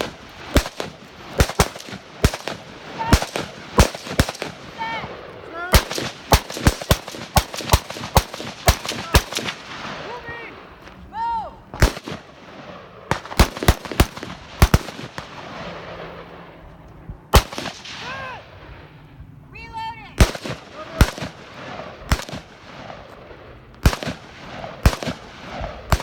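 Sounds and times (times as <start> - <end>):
rifle shots: 0.0 - 10.2, 11.7 - 16.4, 17.3 - 18.9, 20.2 - 26.0.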